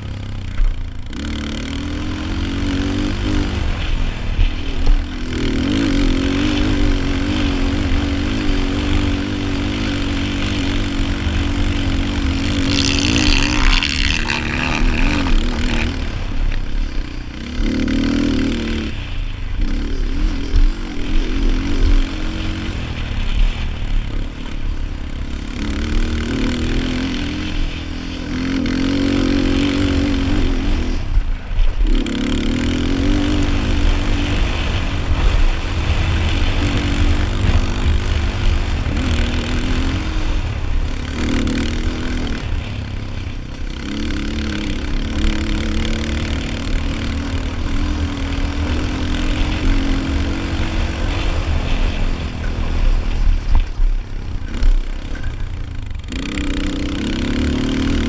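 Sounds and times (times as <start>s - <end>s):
heavy low rumble: 0.0s - 58.0s
quad engine revving: 0.0s - 58.0s.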